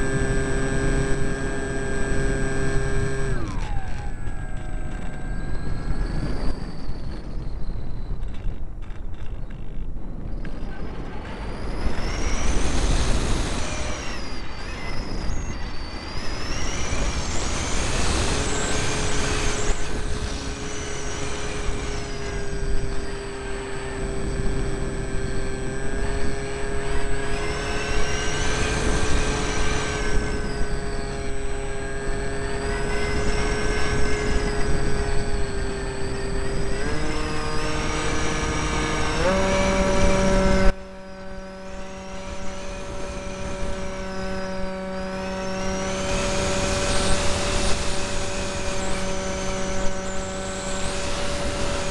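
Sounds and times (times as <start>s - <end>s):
electric motor propeller whine: 0.0s - 51.9s
wind rush on microphone: 0.0s - 51.9s.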